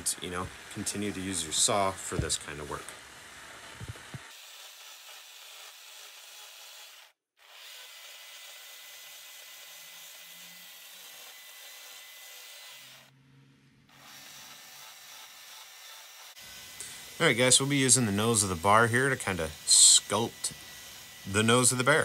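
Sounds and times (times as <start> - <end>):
chainsaw sanding wood: 0.0 - 13.1, 13.9 - 22.0.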